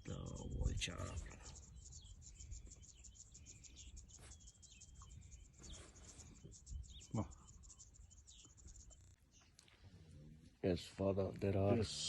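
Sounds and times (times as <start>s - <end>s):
bird chirps: 0.0s - 10.6s.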